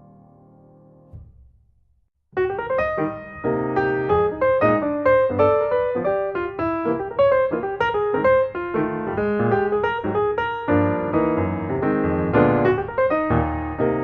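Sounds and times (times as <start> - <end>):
piano music: 0.0 - 1.3, 2.4 - 14.0.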